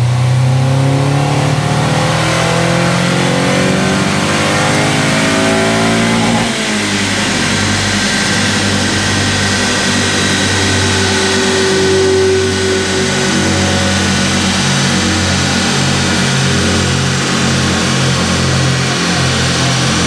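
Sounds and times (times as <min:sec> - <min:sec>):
car engine revving under load: 0:00.0 - 0:20.0.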